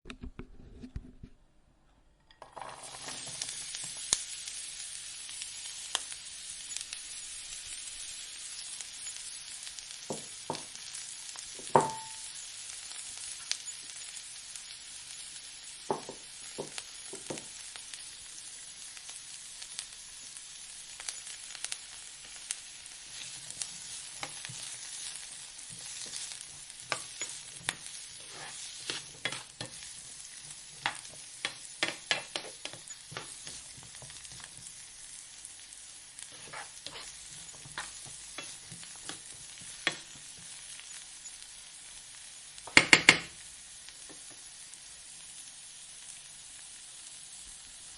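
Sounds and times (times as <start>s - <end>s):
omelette sizzling in a pan: 2.4s - 47.9s.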